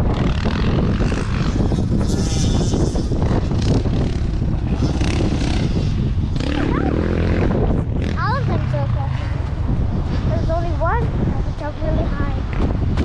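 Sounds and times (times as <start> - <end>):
dirt bike engine running: 0.0 - 13.0
wind rumbling on microphone: 0.0 - 13.0.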